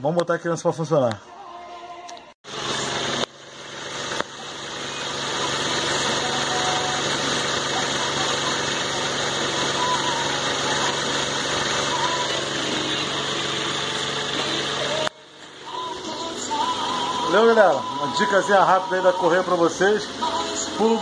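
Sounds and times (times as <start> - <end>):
car engine idling: 2.4 - 21.0.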